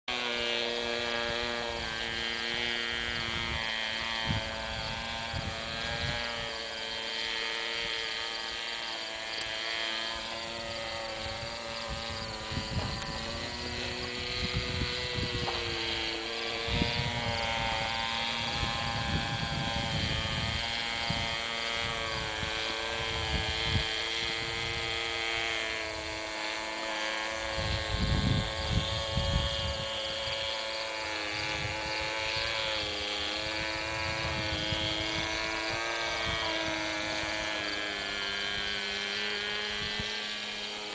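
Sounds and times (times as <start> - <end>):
model airplane motor whine: 0.0 - 40.9
wind buffeting microphone: 0.2 - 40.9.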